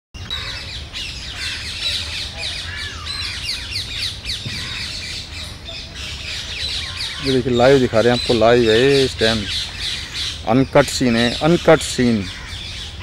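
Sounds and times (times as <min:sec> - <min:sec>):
birds chirping in chorus: 0:00.2 - 0:13.0.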